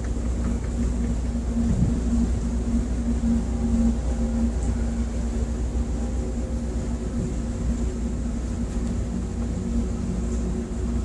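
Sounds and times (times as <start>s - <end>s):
marine engines rumbling: 0.0s - 11.0s.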